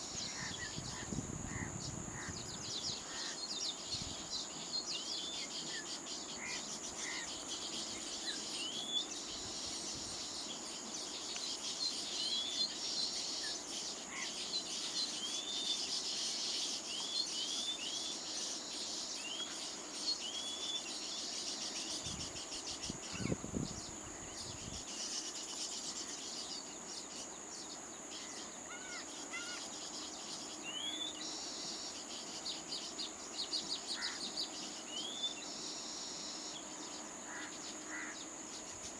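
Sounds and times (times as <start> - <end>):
high-pitched insect drone: 0.0 - 38.9
weaver birds chattering: 0.0 - 38.9.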